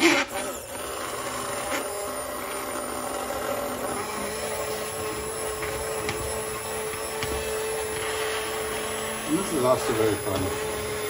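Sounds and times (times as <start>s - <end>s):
immersion blender motor whine: 0.0s - 11.0s
soup churning: 0.0s - 11.0s.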